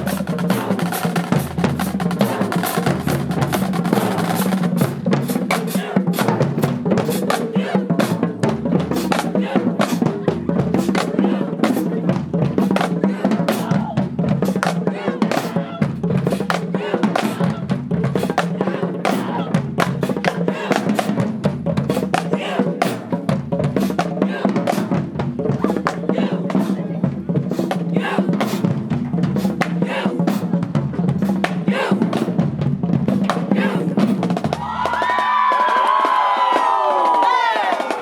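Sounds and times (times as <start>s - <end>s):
snare drum rolls: 0.0s - 26.8s, 27.5s - 38.0s
loud voices: 0.0s - 32.5s, 33.1s - 38.0s
bass drum beat: 0.0s - 38.0s.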